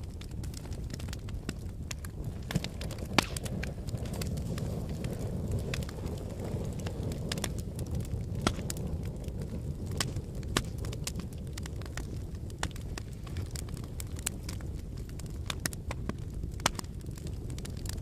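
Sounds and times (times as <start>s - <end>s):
fire crackling in fireplace: 0.0s - 18.0s.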